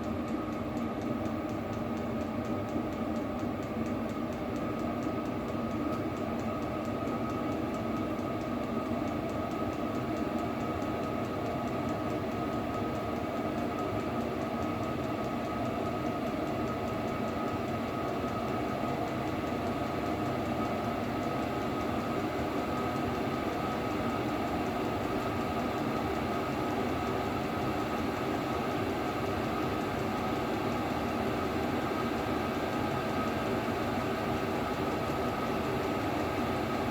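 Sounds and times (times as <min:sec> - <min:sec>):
air heater fan whir: 0:00.0 - 0:36.9.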